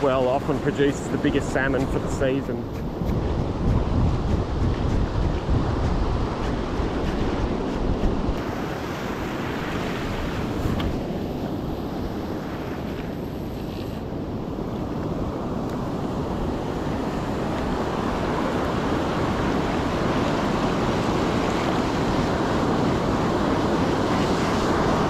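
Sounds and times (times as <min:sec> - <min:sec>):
ocean surf washing on beach: 0:00.0 - 0:25.0
wind on microphone: 0:00.0 - 0:25.0.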